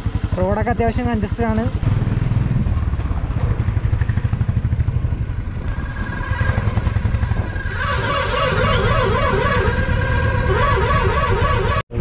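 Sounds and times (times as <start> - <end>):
motorcycle engine pulsing: 0.0 - 12.0.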